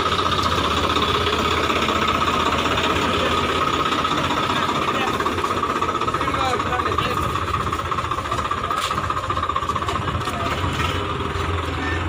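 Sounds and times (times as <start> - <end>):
diesel tractor engine clatter: 0.0 - 12.0.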